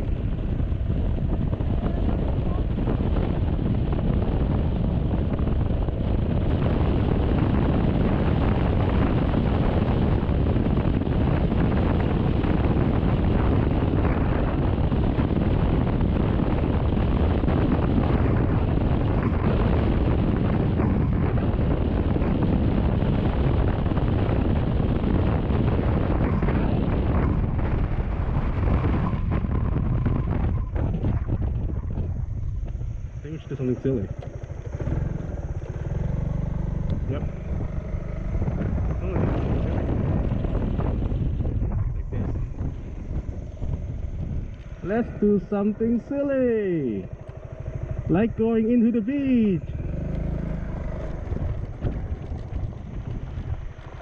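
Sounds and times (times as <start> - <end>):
scooter engine: 0.0 - 46.2, 46.8 - 48.7, 49.6 - 54.0
wind rush on microphone: 0.0 - 54.0.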